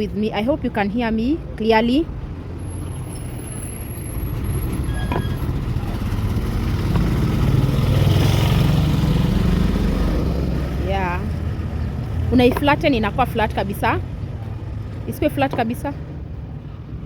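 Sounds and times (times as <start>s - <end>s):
heavy vehicle engine rumble: 0.0s - 17.0s.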